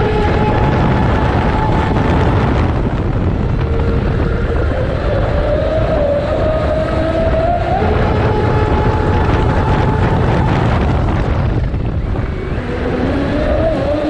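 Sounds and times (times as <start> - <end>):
water and wind rush: 0.0 - 14.0.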